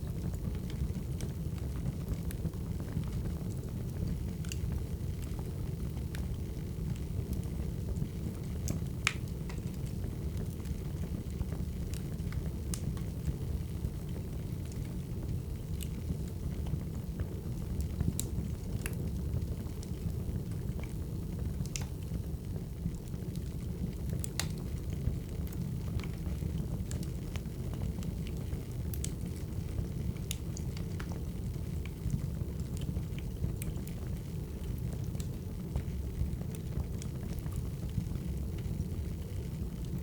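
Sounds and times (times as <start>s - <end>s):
firewood burning with crackles: 0.0s - 40.0s.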